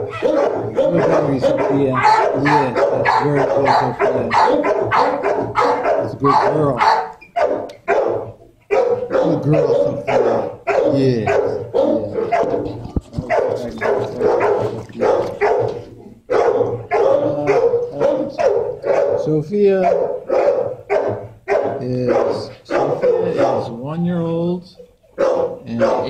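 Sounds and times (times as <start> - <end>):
dogs barking: 0.0 - 24.0, 24.8 - 26.0.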